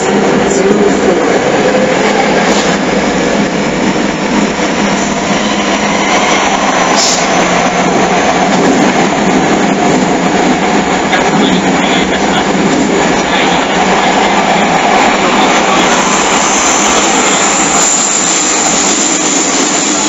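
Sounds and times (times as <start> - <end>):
electric train running: 0.0 - 20.0.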